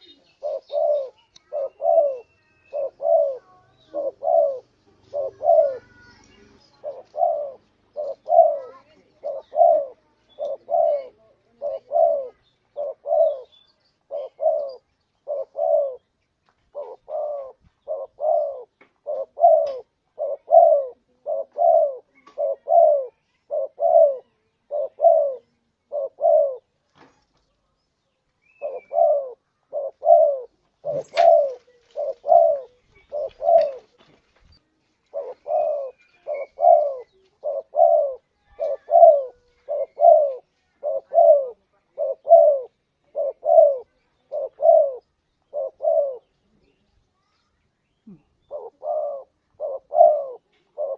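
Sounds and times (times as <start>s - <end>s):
dove cooing: 0.0s - 16.1s, 16.7s - 26.8s, 28.4s - 34.1s, 35.0s - 46.7s, 48.0s - 50.9s.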